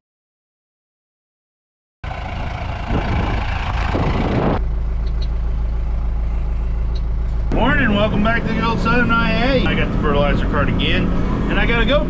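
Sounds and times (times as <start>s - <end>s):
tractor diesel engine running: 2.0s - 12.0s.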